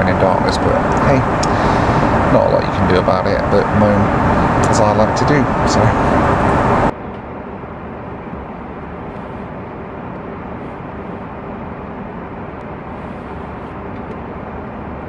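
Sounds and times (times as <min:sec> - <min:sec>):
airplane cabin engine and airflow noise: 0:00.0 - 0:15.0.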